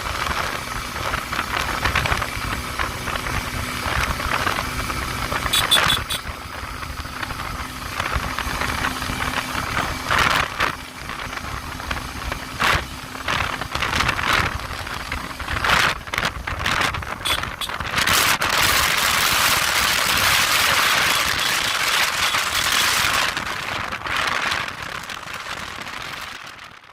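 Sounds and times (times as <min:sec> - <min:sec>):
motorcycle engine hum: 0:00.0 - 0:26.9
wind rushing over microphone: 0:00.0 - 0:26.9.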